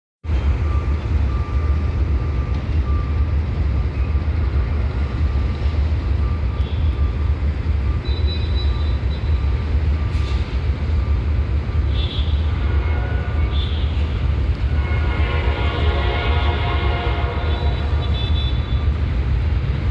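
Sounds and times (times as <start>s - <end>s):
train rumbling past: 0.2s - 19.9s.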